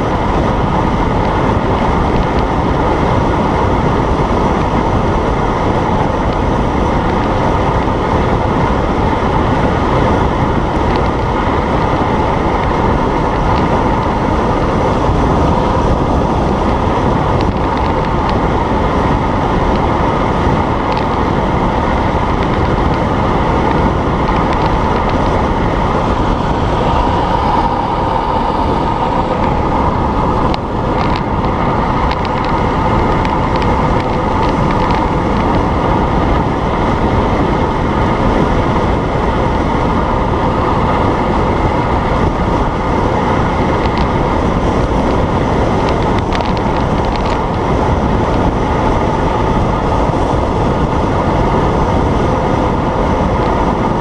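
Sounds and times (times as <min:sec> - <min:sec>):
tyre road rumble: 0:00.0 - 0:54.0
wind buffeting microphone: 0:00.0 - 0:54.0.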